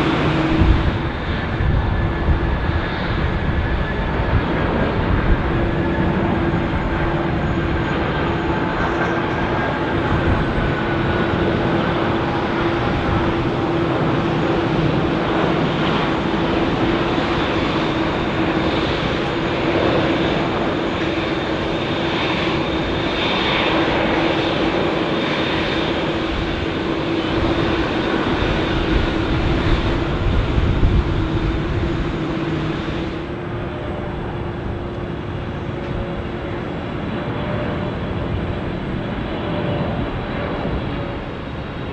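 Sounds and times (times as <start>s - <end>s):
jet airliner engines rushing: 0.0s - 41.9s.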